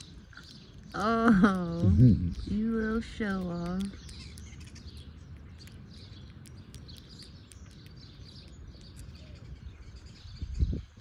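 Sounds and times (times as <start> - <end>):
low outdoor rumble: 0.0 - 11.0
small birds chirping: 0.0 - 11.0.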